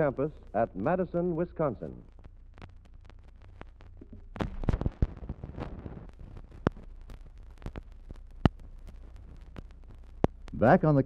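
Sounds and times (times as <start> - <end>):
record crackles and pops: 0.0 - 11.0
steady low hum: 0.0 - 11.0.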